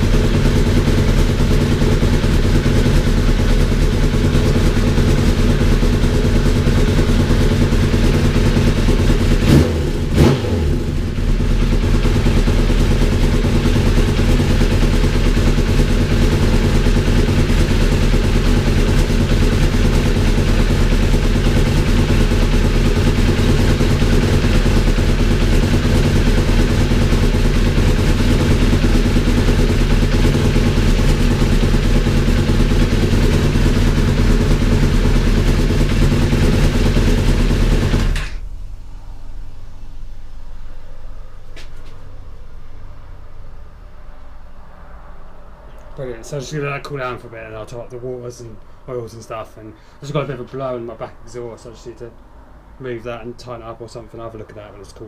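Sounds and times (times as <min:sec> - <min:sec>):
motorcycle engine running: 0:00.0 - 0:51.2.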